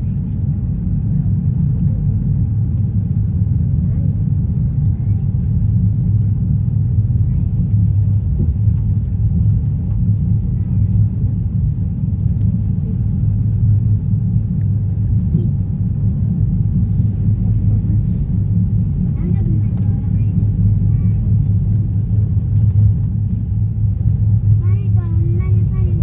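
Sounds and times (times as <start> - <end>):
train rumbling at speed: 0.0 - 26.0.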